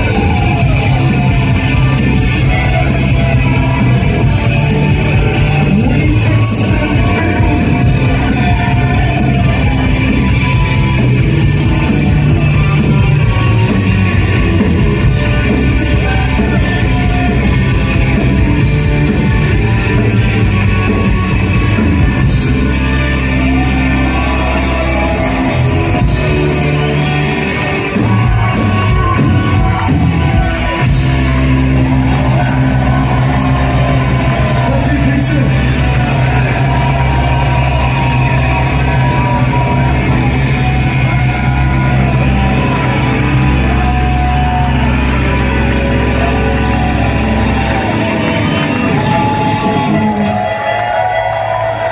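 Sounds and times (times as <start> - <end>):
bass guitar: 0.0 - 51.9
drums: 0.0 - 51.9
electric guitars: 0.0 - 51.9
rock band playing live: 0.0 - 51.9.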